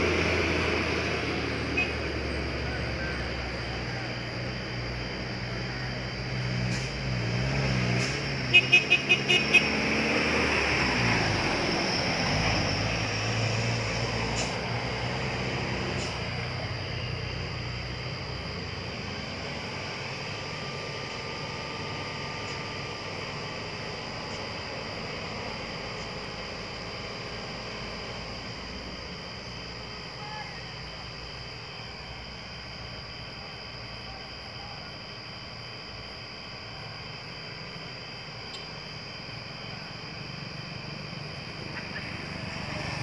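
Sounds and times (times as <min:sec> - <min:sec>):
diesel truck engines passing: 0:00.0 - 0:33.1, 0:39.2 - 0:43.0.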